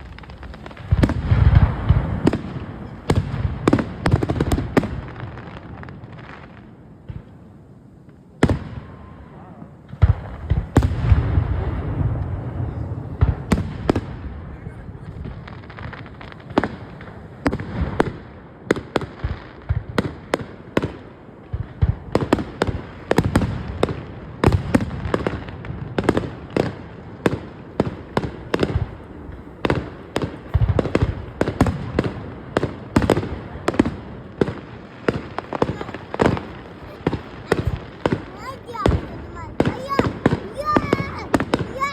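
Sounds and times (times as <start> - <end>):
fireworks bursting with sharp bangs: 0.0 - 41.9.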